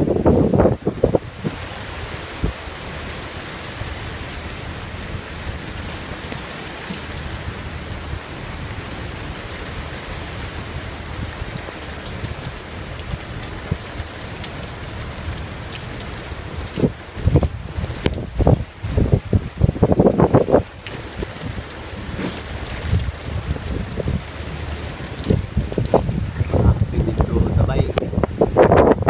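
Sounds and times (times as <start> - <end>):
heavy rain on boat deck: 0.0 - 29.0.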